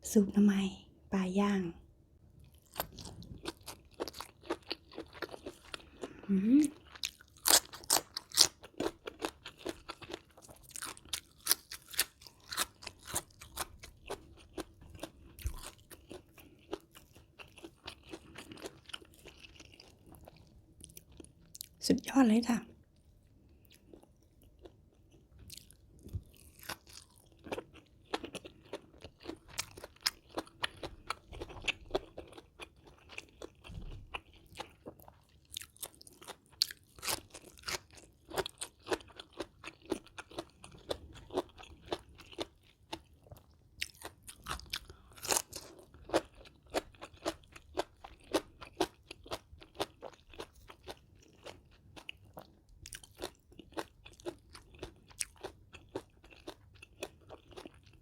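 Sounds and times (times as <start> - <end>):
chewing and crunching food: 2.3 - 21.8, 22.4 - 58.0.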